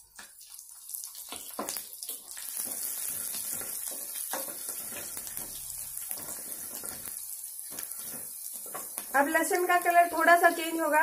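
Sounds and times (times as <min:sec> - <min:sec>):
garlic sizzling in butter: 0:00.0 - 0:11.0.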